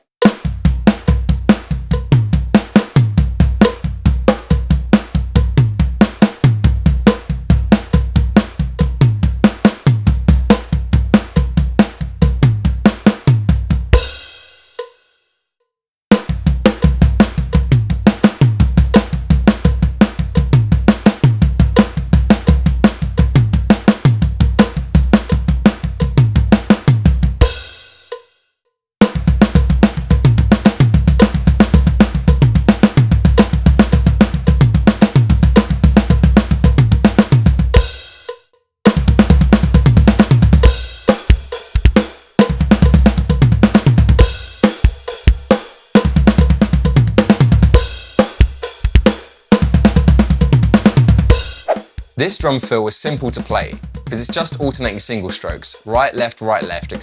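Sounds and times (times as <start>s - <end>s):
drum kit beat: 0.0s - 14.9s, 16.1s - 28.2s, 29.0s - 57.0s
snare and floor tom fill: 0.0s - 14.9s, 16.1s - 28.2s, 29.0s - 57.0s.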